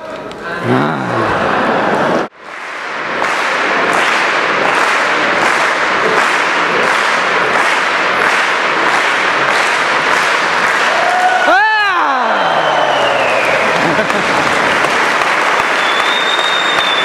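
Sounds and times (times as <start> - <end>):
applause: 2.3 - 17.0
audience clapping in unison: 2.3 - 17.0.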